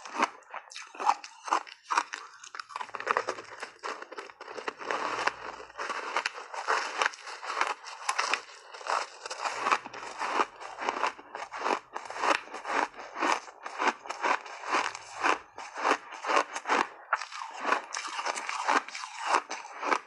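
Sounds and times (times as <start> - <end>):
chewing crunchy ice: 0.0 - 20.0.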